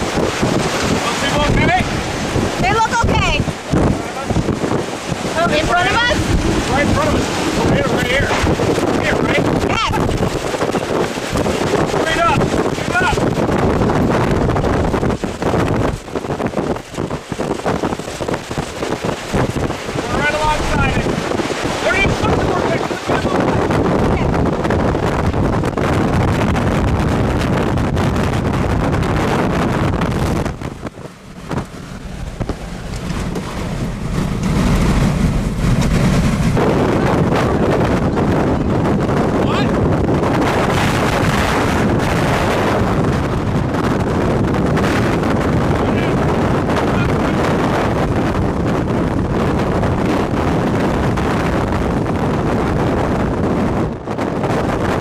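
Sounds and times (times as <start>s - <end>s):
strong wind buffeting microphone: 0.0s - 55.0s.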